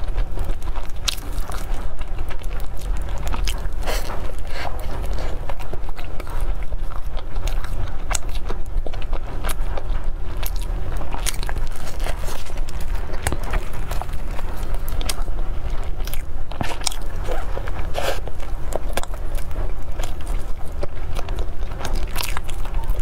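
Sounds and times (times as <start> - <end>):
chewing soft bun: 0.0 - 23.0
low hum: 0.0 - 23.0.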